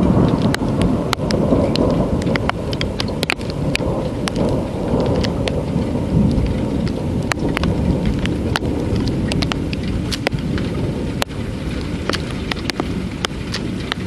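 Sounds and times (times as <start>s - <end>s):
heavy rain falling: 0.0s - 14.0s
low rumble of thunder: 0.0s - 14.0s.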